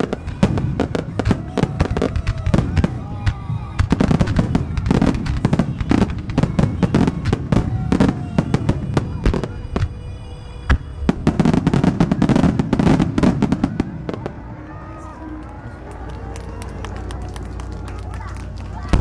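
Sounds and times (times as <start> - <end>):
fireworks bangs: 0.0 - 15.4, 16.4 - 19.0.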